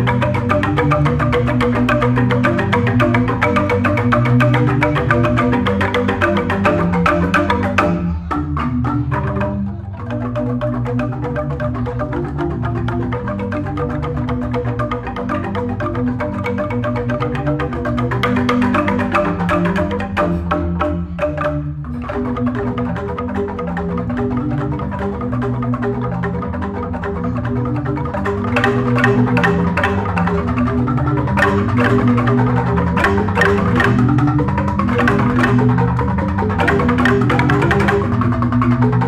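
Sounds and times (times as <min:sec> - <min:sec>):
struck bamboo notes: 0:00.0 - 0:39.0.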